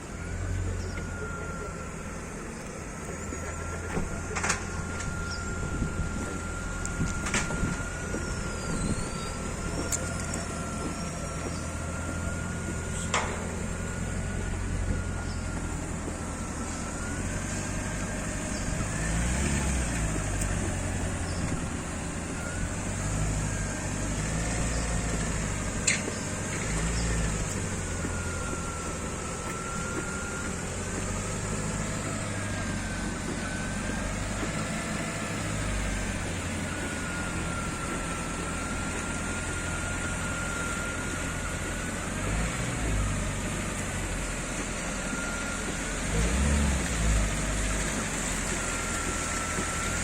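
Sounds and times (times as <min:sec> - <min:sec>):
vehicle engine drone: 0:00.0 - 0:50.0.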